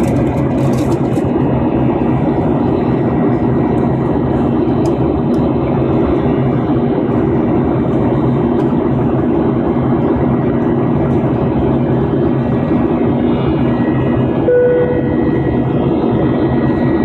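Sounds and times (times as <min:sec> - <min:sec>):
airliner cabin engine roar: 0:00.0 - 0:17.0.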